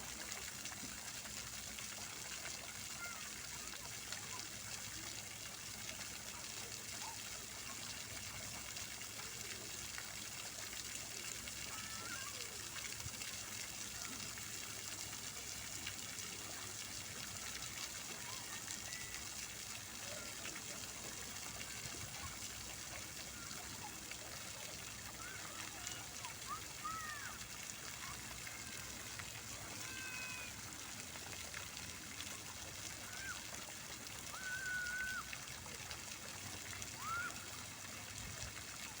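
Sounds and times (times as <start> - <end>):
fountain water splashing: 0.0 - 39.0.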